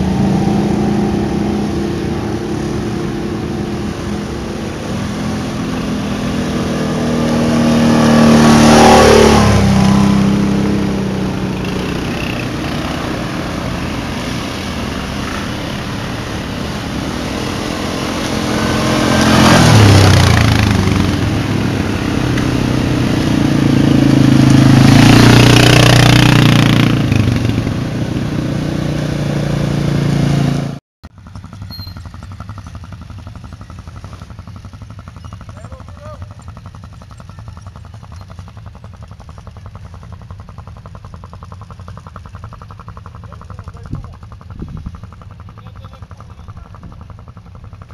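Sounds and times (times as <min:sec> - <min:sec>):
atv engines passing by: 0:00.0 - 0:47.9.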